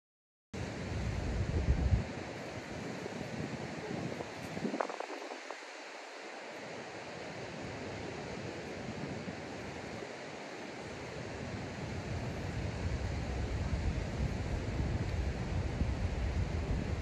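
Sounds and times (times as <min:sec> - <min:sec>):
wind on microphone: 0:00.6 - 0:06.4, 0:07.4 - 0:17.0.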